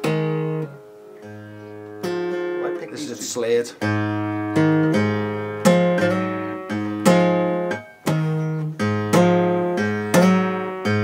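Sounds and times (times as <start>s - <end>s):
acoustic guitar rock shuffle: 0.0s - 11.0s.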